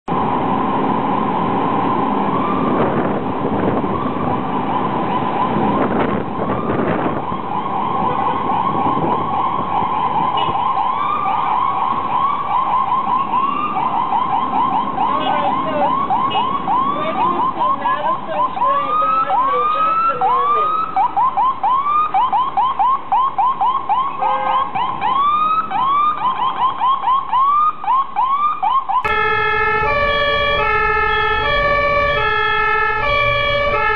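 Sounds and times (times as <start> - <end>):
traffic noise: 0.0 - 33.9
ambulance siren yelping: 2.0 - 33.9.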